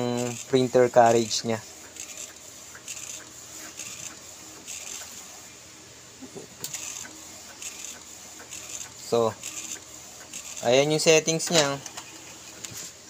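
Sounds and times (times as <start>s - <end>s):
inkjet printer printing: 0.0s - 13.0s.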